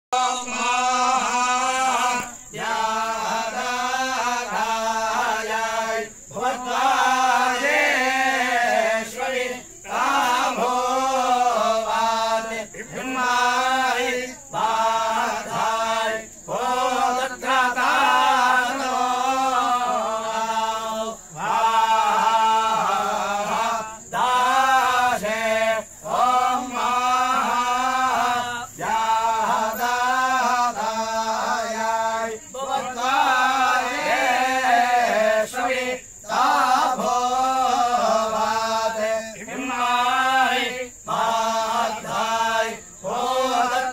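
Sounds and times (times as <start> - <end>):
men chanting in unison: 0.1 - 43.9.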